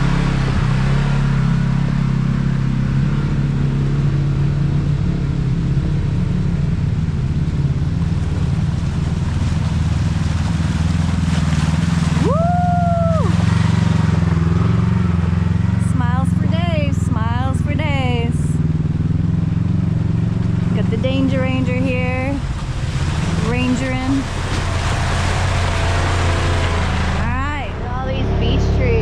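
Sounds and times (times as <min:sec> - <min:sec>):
utility vehicle engine running: 0:00.0 - 0:29.0.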